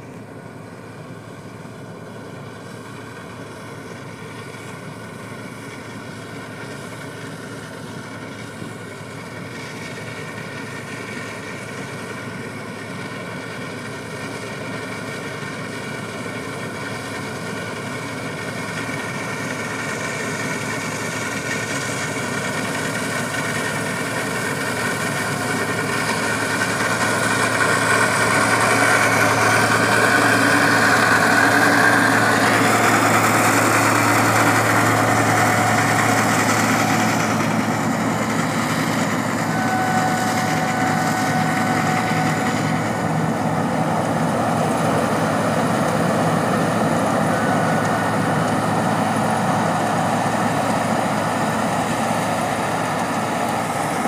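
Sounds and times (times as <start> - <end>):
combine harvester drone: 0.0 - 54.0.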